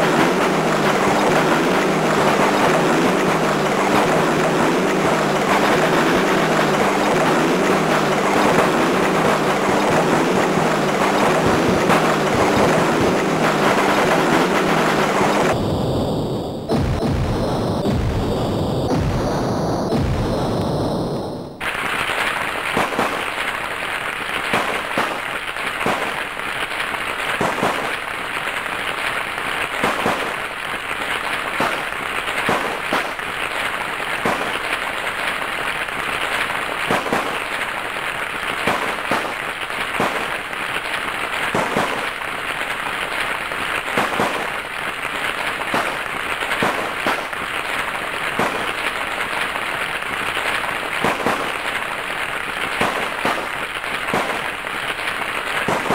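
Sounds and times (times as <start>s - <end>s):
massed gunfire crackle: 0.0s - 55.9s.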